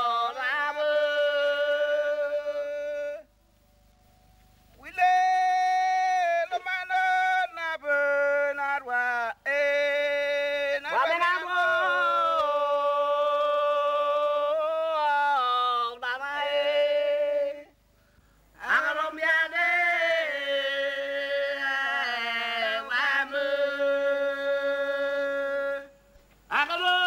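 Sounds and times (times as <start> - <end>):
vocal chanting in held notes: 0.0 - 3.4, 4.8 - 17.8, 18.4 - 27.0.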